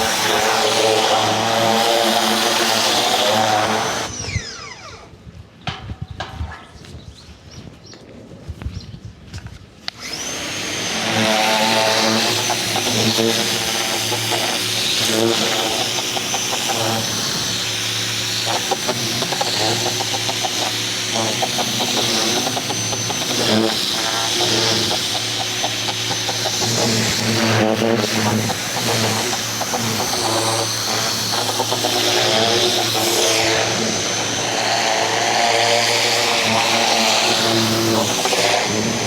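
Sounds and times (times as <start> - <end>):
pressure washer running: 0.0 - 4.8, 10.0 - 39.0.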